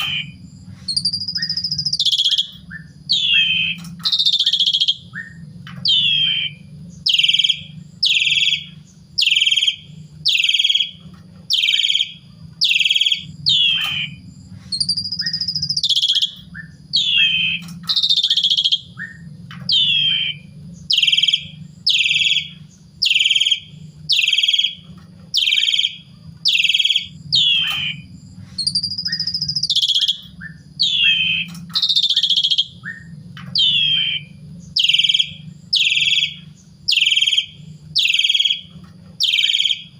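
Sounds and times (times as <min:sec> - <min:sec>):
bird chirping: 0:00.0 - 0:39.9
faint low hum: 0:00.0 - 0:39.9
swooping bird whistles: 0:00.0 - 0:39.9.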